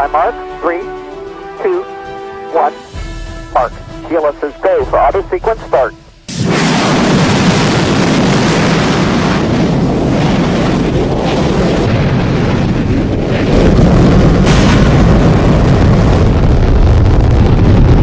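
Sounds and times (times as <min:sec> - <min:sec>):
rocket engines roaring: 0:00.0 - 0:02.8, 0:03.5 - 0:18.0.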